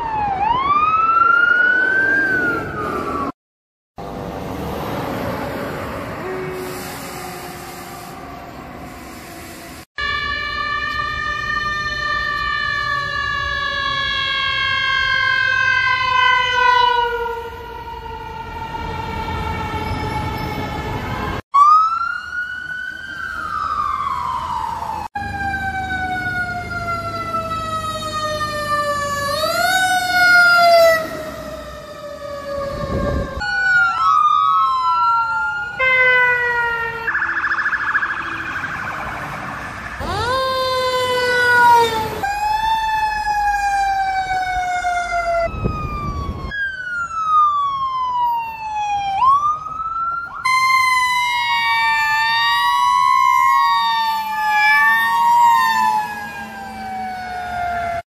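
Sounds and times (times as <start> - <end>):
emergency vehicle sirens wailing: 0.0 - 3.4, 4.0 - 58.0.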